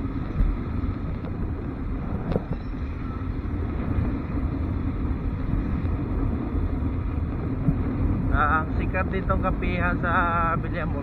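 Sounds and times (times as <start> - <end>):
motorcycle engine drone: 0.0 - 11.0
wind rumble on microphone: 0.0 - 11.0.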